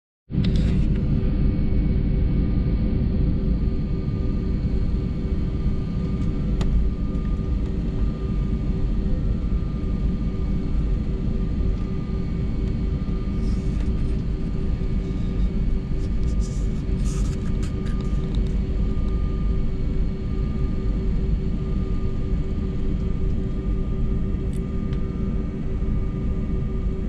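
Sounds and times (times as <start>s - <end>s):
jet engines rumbling: 0.4s - 27.0s.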